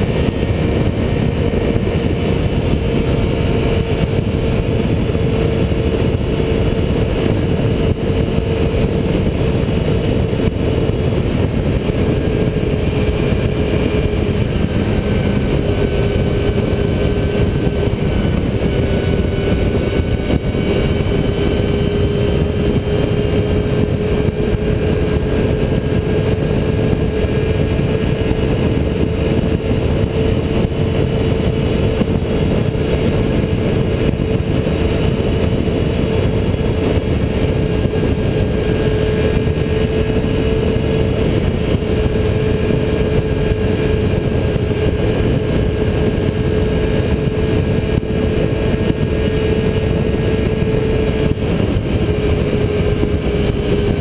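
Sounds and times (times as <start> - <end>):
motorcycle engine humming: 0.0 - 54.0
wind rushing on microphone: 0.0 - 54.0.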